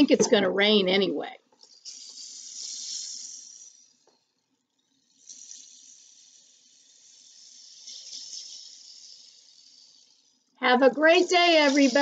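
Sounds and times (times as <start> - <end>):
rain stick trickling hiss: 1.6 - 4.3, 4.9 - 12.0.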